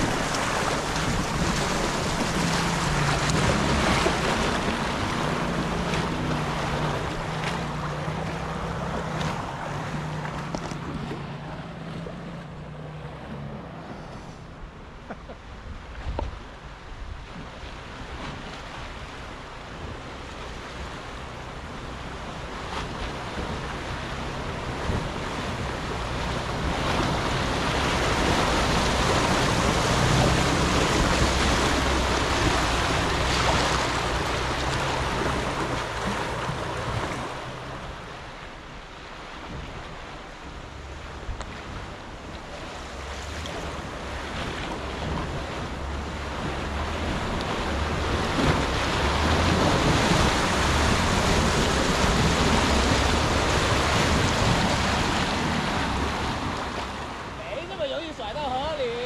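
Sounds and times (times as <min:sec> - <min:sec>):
vehicle engine at low revs: 0:00.0 - 0:57.7.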